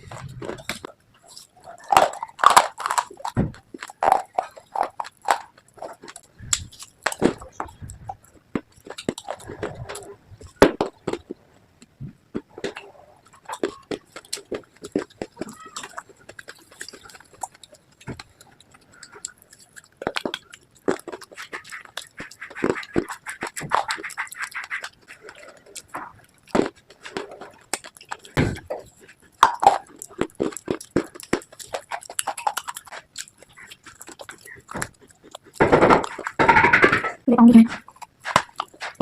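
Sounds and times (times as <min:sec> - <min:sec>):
chewing brittle slate crunches: 0:00.0 - 0:11.4, 0:12.3 - 0:36.8, 0:37.8 - 0:39.0.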